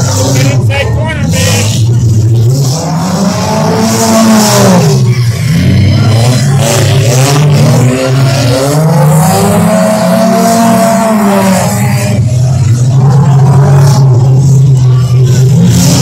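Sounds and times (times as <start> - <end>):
car engines running loudly: 0.0 - 16.0
engine revving: 0.0 - 16.0.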